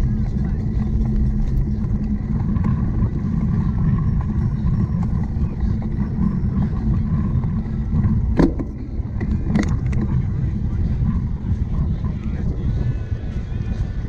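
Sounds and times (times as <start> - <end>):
bike rumbling over rough ground: 0.0 - 14.0
wind on microphone: 0.0 - 14.0.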